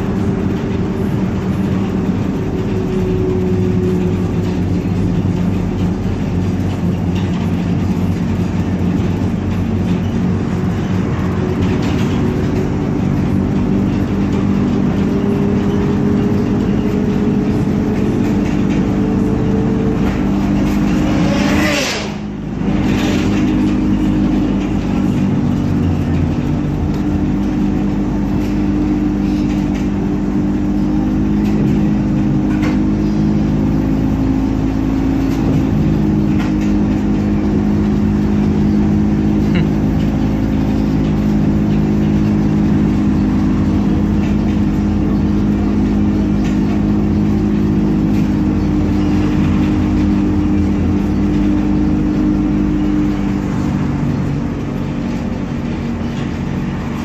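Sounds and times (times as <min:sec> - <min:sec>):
road noise: 0:00.0 - 0:57.0
trolleybus electric hum: 0:00.0 - 0:57.0.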